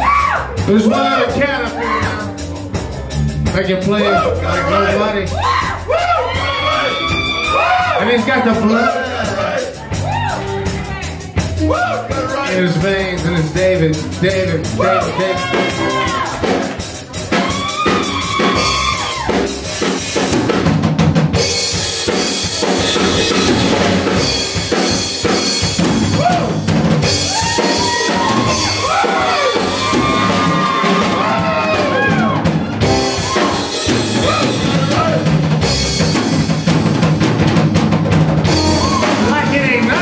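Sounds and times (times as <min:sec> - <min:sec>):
bass drum: 0:00.0 - 0:40.0
drum rolls: 0:00.0 - 0:40.0
live band music: 0:00.0 - 0:40.0.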